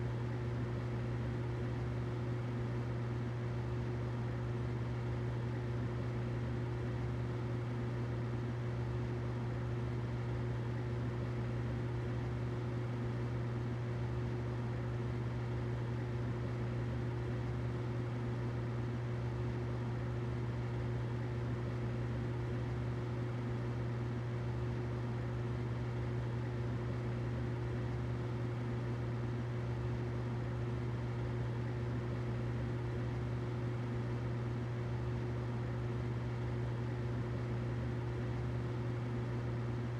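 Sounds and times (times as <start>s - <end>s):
humidifier humming: 0.0s - 39.9s.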